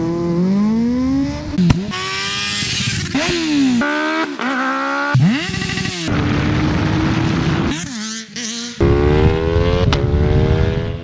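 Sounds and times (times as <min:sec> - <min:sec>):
motorcycle engine revving hard: 0:00.0 - 0:11.0.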